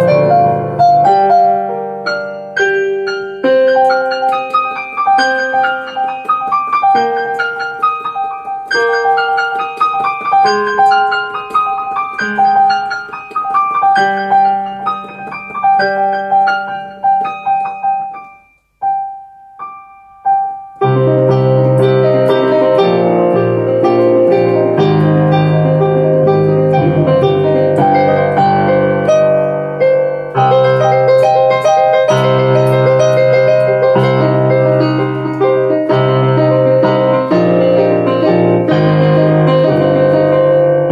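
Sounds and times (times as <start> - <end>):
digital piano piece: 0.0 - 40.9.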